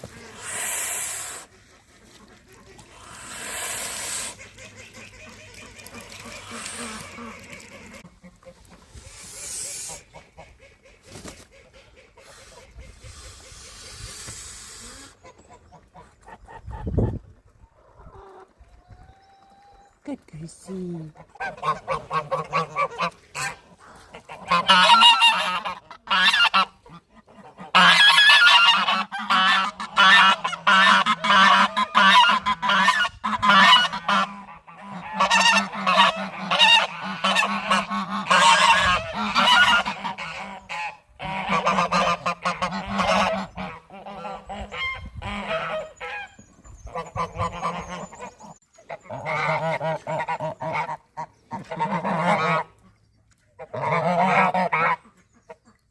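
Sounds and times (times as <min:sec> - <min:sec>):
geese honking: 0:00.0 - 0:16.6, 0:21.2 - 0:52.8, 0:53.6 - 0:55.6.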